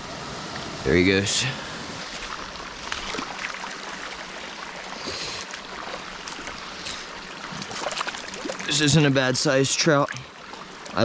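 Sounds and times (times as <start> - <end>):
stream burbling over stones: 0.0 - 11.0.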